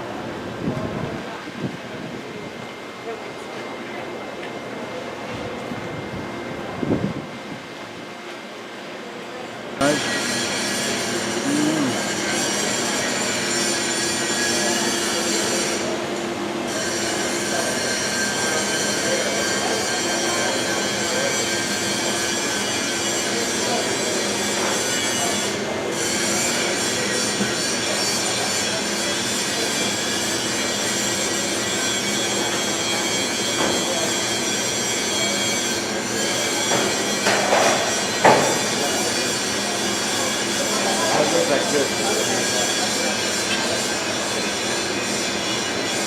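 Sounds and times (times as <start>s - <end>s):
mechanical hum: 0.0s - 46.0s.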